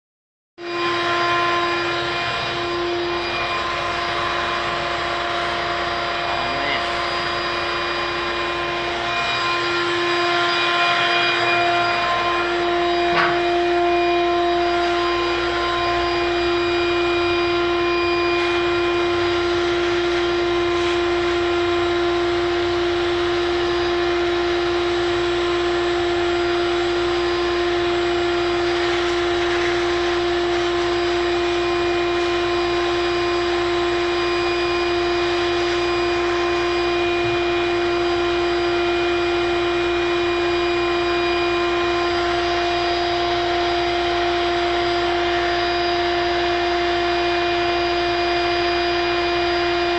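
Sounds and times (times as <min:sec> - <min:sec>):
machine humming: 0:00.6 - 0:49.9.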